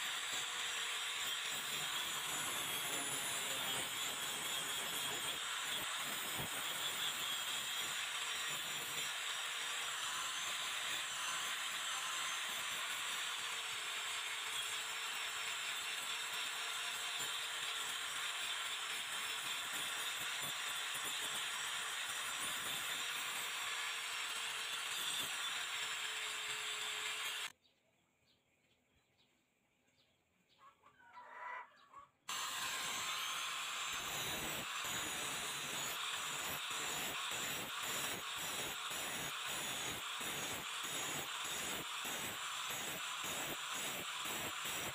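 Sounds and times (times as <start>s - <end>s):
angle grinder grinding metal: 0.0s - 27.5s, 32.3s - 44.9s.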